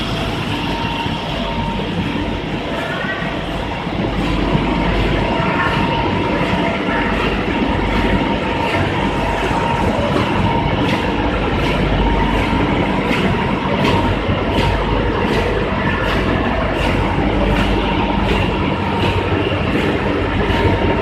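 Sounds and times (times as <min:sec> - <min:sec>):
printer machine hum: 0:00.0 - 0:21.0
printer clacking: 0:03.5 - 0:21.0.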